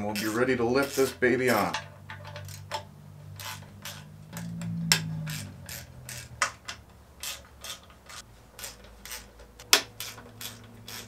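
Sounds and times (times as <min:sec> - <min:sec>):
socket ratchet clicking: 0:00.0 - 0:11.0.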